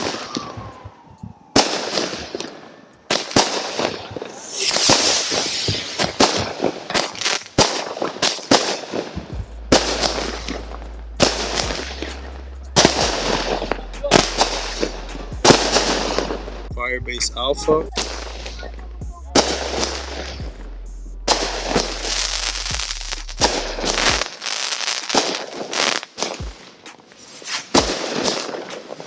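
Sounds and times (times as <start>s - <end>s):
firework crackling: 0.0s - 16.7s, 17.9s - 18.8s, 19.4s - 29.0s
firework shots and bangs: 0.0s - 16.7s, 18.0s - 18.7s, 19.4s - 20.6s, 21.3s - 29.0s.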